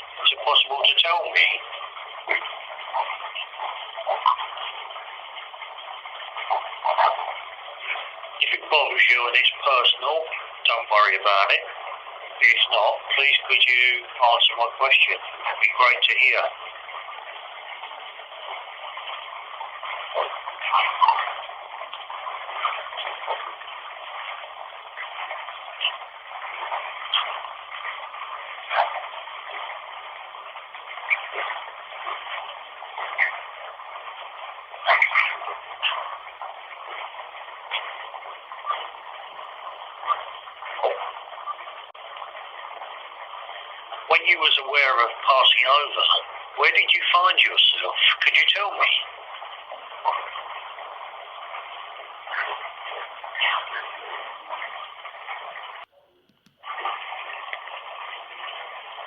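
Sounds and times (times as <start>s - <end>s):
running water hiss: 0.0s - 55.9s, 56.6s - 59.0s.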